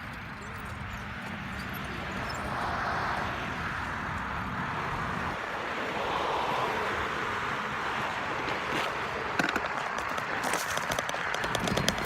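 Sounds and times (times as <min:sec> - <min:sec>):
bicycle rolling rumble: 0:00.0 - 0:12.0
passing vehicles: 0:00.0 - 0:12.0
wind rush while cycling: 0:00.8 - 0:12.0.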